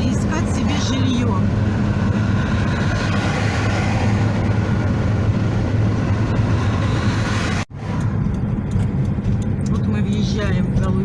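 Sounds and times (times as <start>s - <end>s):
car cabin engine and tyre rumble: 0.0s - 11.0s.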